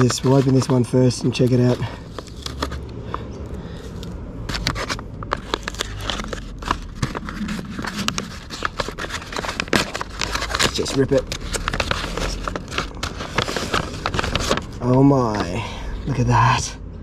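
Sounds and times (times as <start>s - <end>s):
packaging crinkling and scratching: 0.0s - 15.7s.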